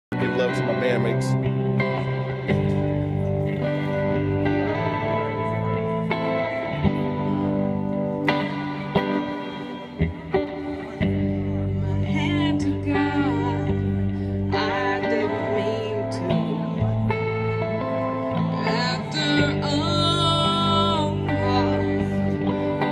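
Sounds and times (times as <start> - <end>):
guitar chords ringing: 0.1 - 22.9
live band playing: 0.1 - 22.9.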